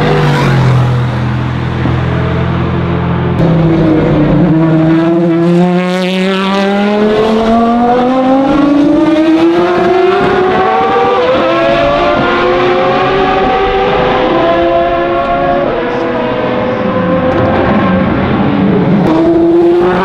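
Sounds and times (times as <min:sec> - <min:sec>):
engine note climbing in pitch: 0:00.0 - 0:20.0
racing car engines at full throttle: 0:00.0 - 0:20.0.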